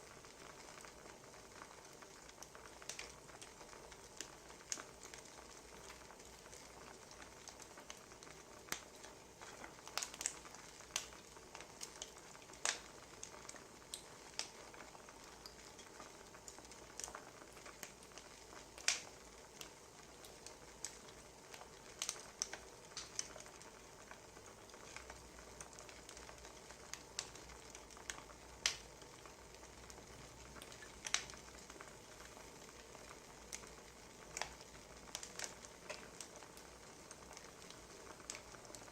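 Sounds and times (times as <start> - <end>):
low steady hiss: 0.0 - 38.9
wood fire crackling: 0.0 - 38.9.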